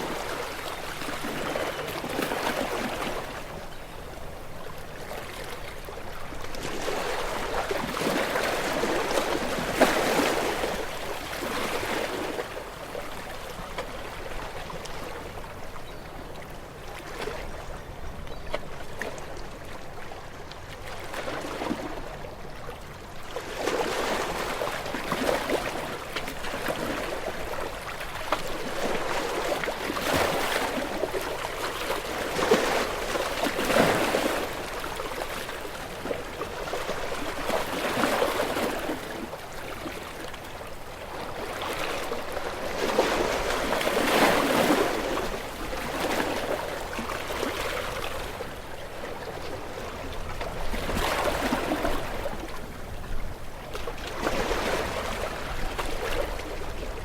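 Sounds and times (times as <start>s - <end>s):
small waves washing onto shore: 0.0s - 15.8s, 16.4s - 57.0s.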